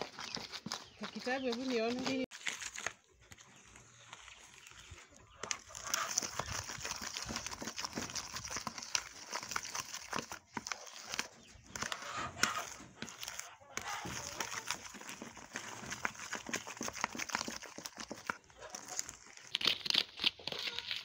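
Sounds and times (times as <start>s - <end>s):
wooden spoon scraping plastic bowl: 0.0s - 2.3s, 3.6s - 19.6s.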